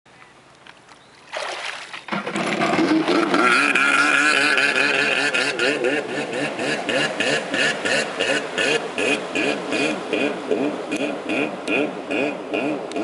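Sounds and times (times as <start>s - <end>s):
jet ski engine revving: 2.1s - 13.0s.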